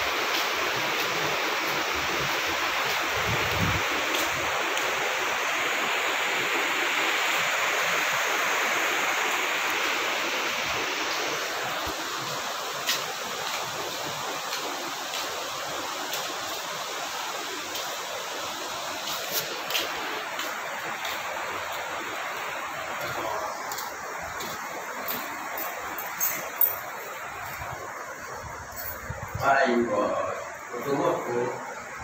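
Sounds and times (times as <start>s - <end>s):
river rapids rushing: 0.0s - 32.0s.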